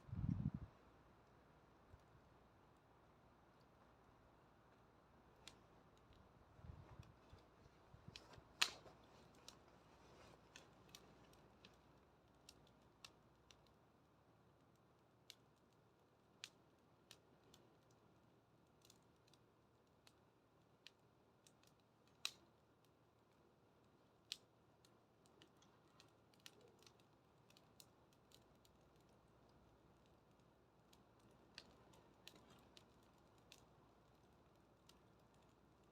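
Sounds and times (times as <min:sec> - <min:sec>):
bonfire crackling and popping: 0:00.1 - 0:35.9.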